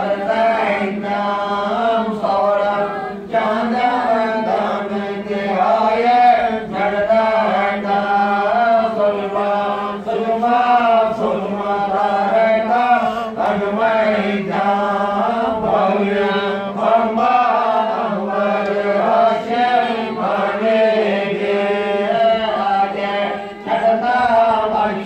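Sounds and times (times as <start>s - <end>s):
group chanting mantras: 0.0s - 25.0s.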